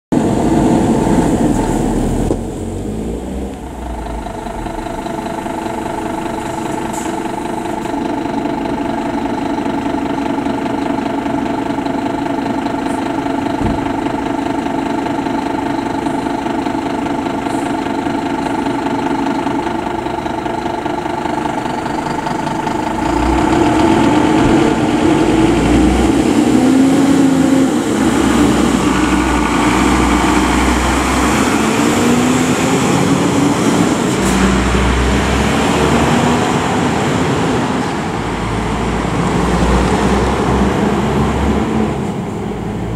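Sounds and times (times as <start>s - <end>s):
diesel engine idling and revving: 0.1s - 42.9s.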